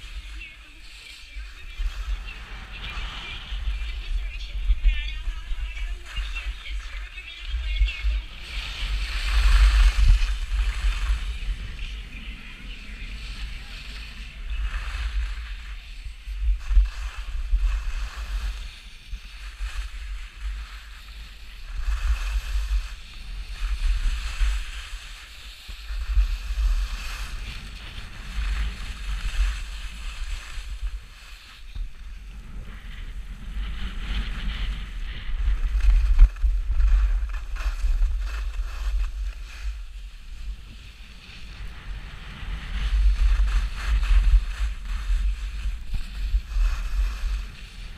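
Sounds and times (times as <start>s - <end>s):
skis scraping over snow: 0.0s - 47.9s
wind rumble on microphone: 0.0s - 47.9s.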